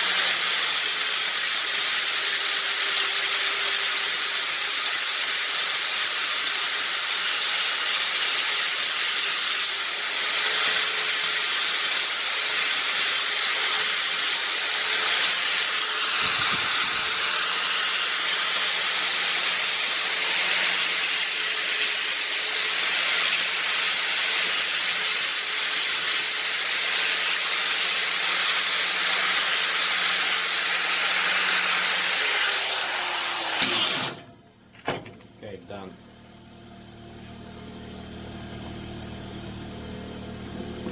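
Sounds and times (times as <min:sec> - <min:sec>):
angle grinder grinding steel: 0:00.0 - 0:34.3.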